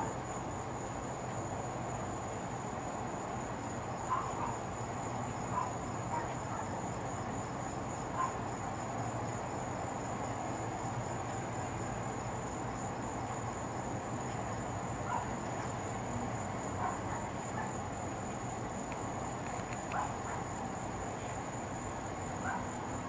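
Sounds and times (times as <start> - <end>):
low background hum: 0.0 - 23.0
night insects trilling: 0.0 - 23.0.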